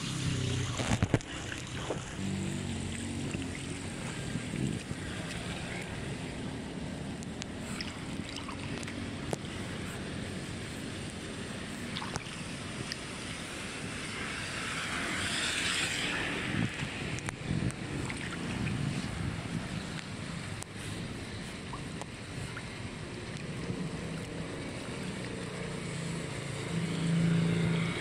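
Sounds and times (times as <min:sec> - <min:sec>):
splashing in water: 0:00.0 - 0:26.2
floodwater swirling and gurgling: 0:00.0 - 0:28.0.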